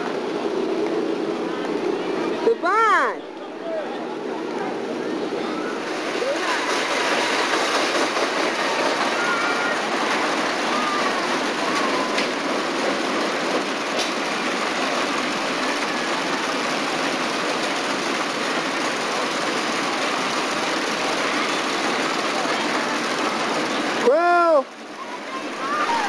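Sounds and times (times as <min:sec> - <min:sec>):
roller coaster wheels on rails: 0:00.0 - 0:26.0.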